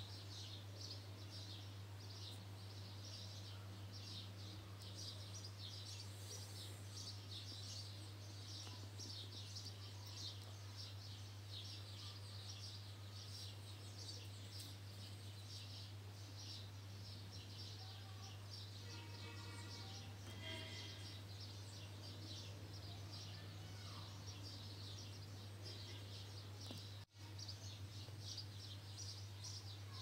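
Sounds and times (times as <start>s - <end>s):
faint high chirping: 0.0s - 30.0s.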